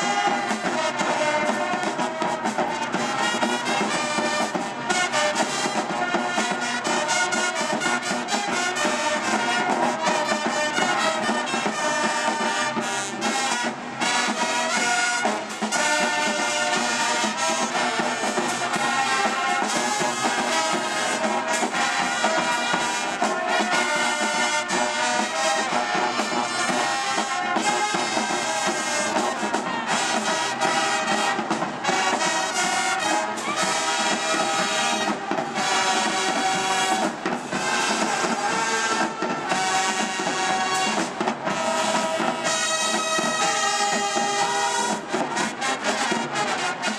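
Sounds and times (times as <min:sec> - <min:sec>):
brass band playing: 0:00.0 - 0:46.9
trombones: 0:00.0 - 0:46.9
trumpets: 0:00.0 - 0:46.9.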